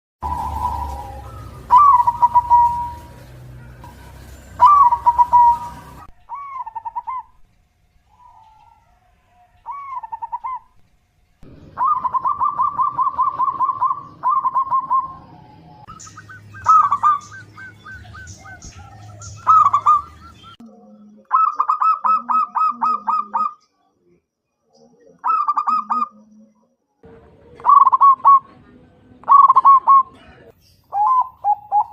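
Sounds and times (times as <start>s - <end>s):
dove cooing: 0.2s - 7.4s, 8.1s - 10.8s, 11.5s - 23.6s, 24.9s - 26.4s, 27.4s - 31.9s.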